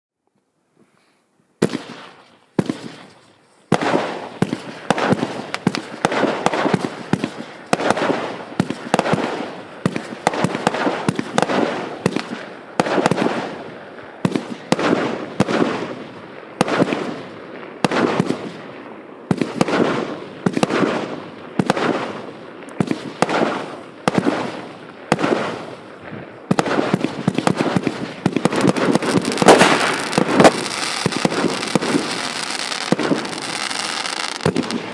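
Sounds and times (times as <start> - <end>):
firework shots with crackle: 1.6 - 34.9.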